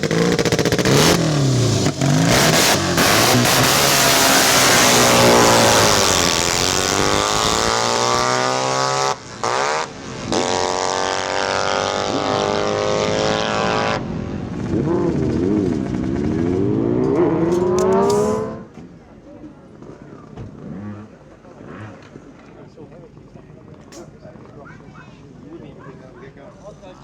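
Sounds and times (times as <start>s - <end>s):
motorcycle engines at full throttle: 0.0s - 25.8s.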